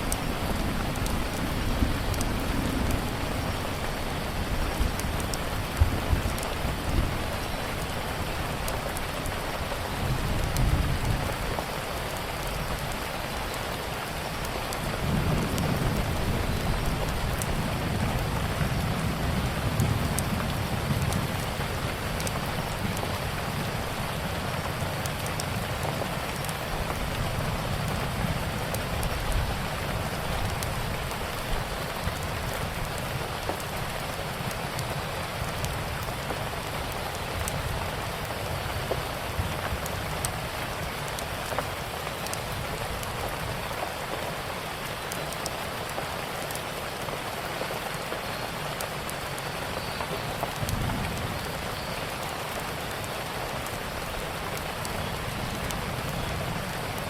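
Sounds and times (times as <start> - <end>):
steady rain falling: 0.0 - 57.0
wood fire crackling: 0.0 - 57.0.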